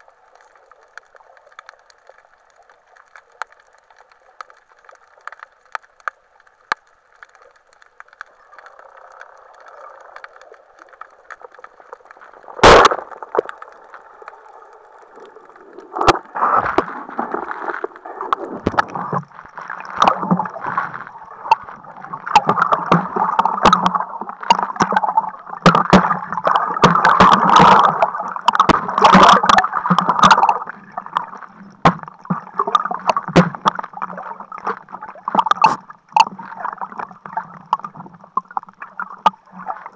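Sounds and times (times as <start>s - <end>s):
water churning and splashing: 7.6s - 39.9s.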